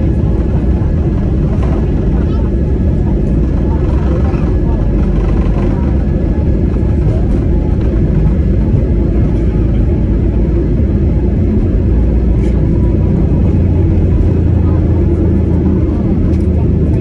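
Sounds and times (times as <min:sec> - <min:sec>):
jet engines roaring on takeoff: 0:00.0 - 0:17.0
runway rumble: 0:00.0 - 0:17.0.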